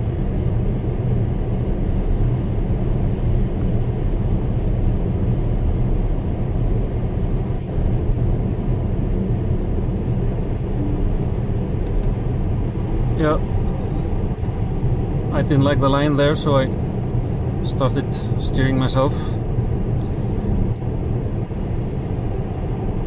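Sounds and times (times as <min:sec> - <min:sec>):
tyre and road noise: 0:00.0 - 0:23.0.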